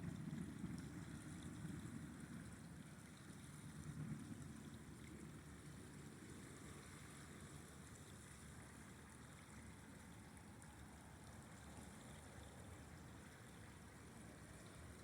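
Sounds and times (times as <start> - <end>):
river flowing with low rumble: 0.0 - 15.0.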